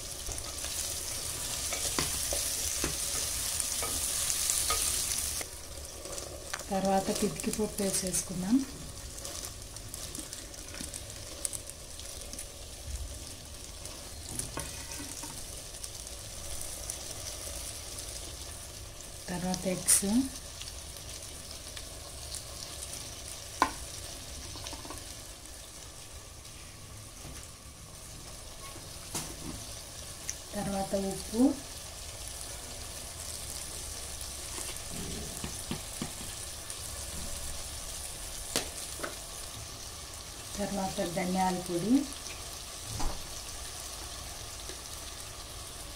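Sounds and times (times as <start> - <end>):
gas burner hissing: 0.0 - 45.9
vegetables sizzling in pot: 0.0 - 45.9.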